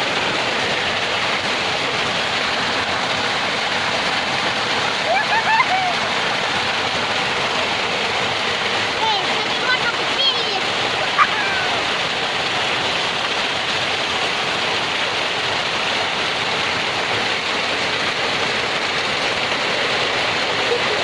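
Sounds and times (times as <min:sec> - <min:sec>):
hail and heavy rain: 0:00.0 - 0:21.0.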